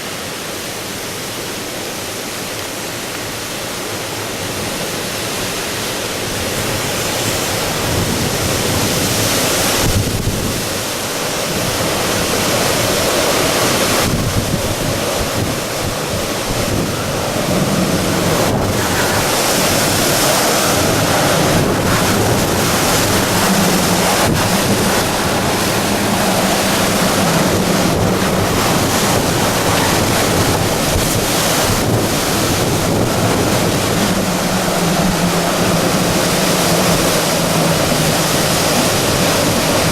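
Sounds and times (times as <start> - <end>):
wind buffeting microphone: 4.2 - 39.9.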